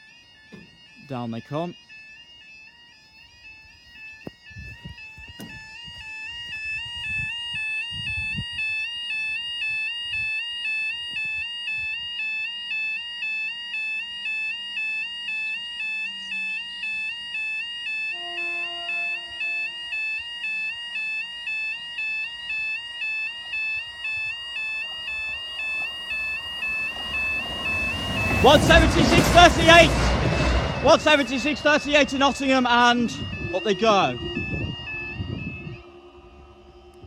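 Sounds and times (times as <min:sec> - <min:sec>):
level crossing alarm two-tone yodel: 0:00.0 - 0:37.0
lower steady tone: 0:00.0 - 0:37.0.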